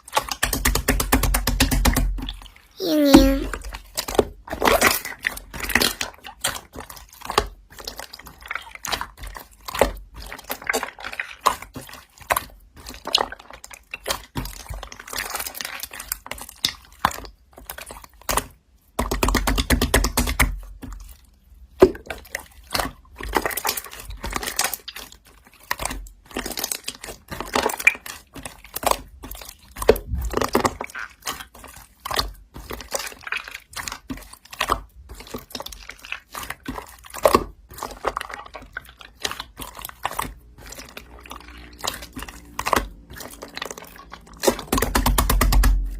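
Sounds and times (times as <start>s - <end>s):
slime squishing with clicks: 0.0s - 45.9s.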